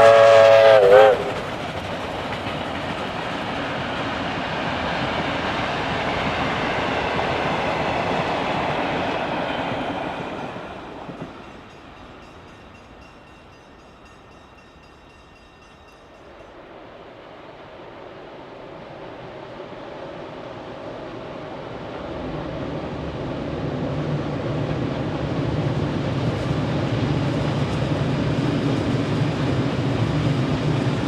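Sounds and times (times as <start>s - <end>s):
steam train running by: 0.0s - 31.0s.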